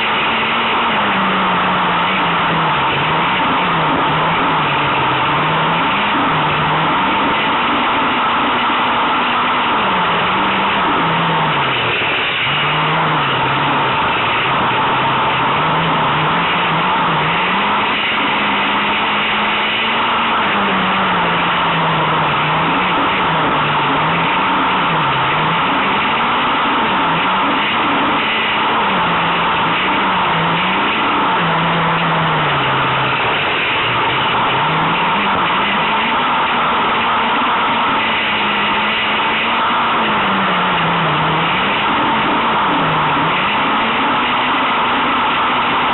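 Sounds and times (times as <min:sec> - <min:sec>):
car engine revving hard: 0:00.0 - 0:45.9
constant rushing noise: 0:00.0 - 0:45.9.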